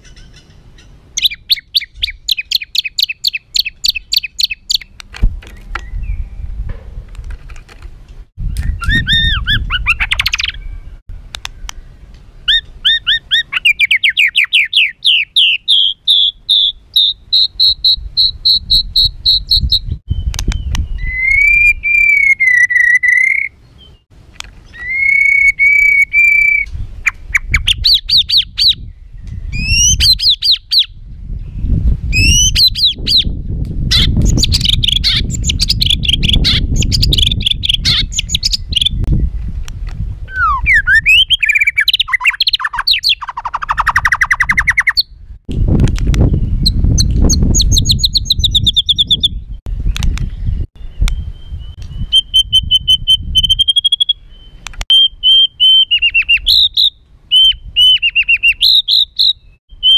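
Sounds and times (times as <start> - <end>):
bird singing harsh trills: 0.0 - 5.0, 8.4 - 39.3, 40.3 - 45.2, 46.2 - 59.9.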